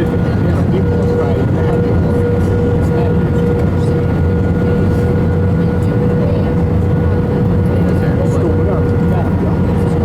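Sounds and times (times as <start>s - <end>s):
aircraft cabin engine rumble: 0.0s - 10.0s
constant whine: 0.0s - 10.0s.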